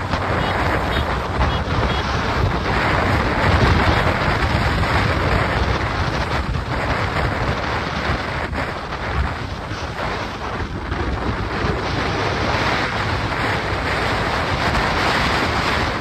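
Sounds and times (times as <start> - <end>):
vehicle road rumble: 0.0 - 16.0
wind buffeting microphone: 0.0 - 16.0.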